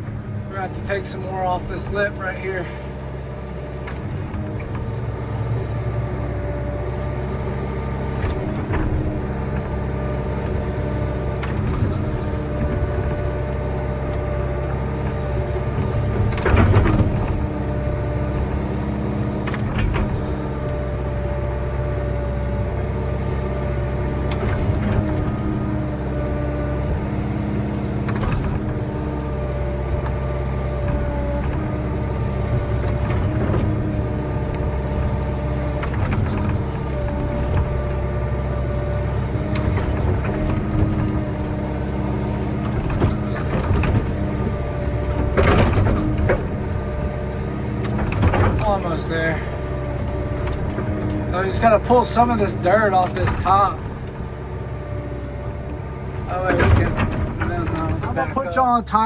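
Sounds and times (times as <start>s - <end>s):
heavy machine diesel engine running: 0.0s - 59.0s.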